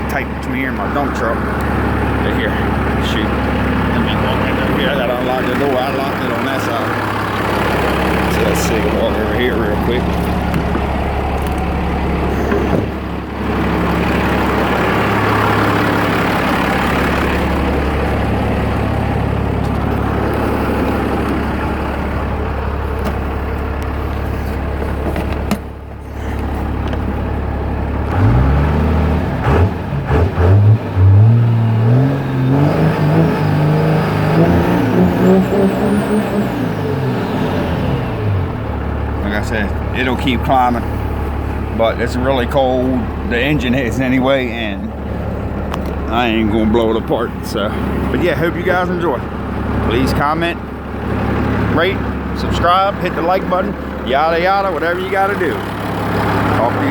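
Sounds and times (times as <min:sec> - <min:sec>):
diesel engine idling and revving: 0:00.0 - 0:56.9.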